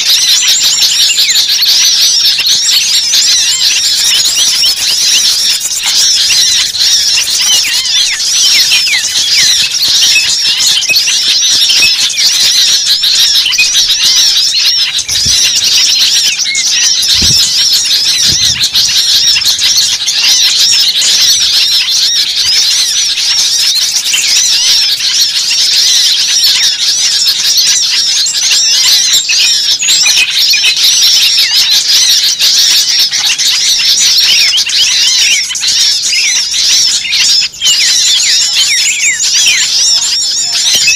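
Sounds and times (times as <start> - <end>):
small birds chirping and alarm calls: 0.0 - 40.9.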